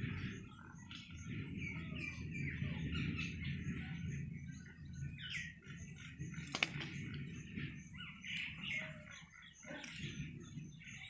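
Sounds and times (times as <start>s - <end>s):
birds chirping and calling: 0.0s - 11.0s
low background rumble: 0.0s - 11.0s.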